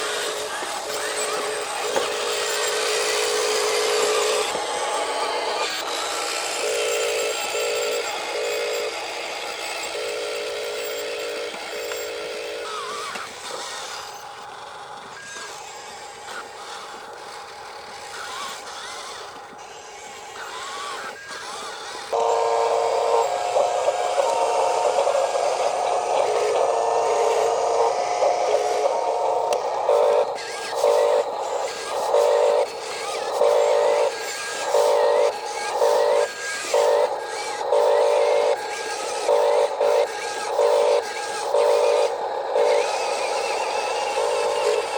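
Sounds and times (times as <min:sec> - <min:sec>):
small electric motors whining: 0:00.0 - 0:44.9.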